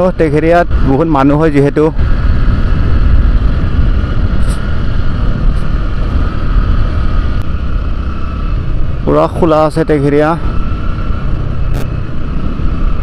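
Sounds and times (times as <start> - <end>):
wind rumble on microphone: 0.0 - 13.0
scooter engine humming: 1.9 - 13.0.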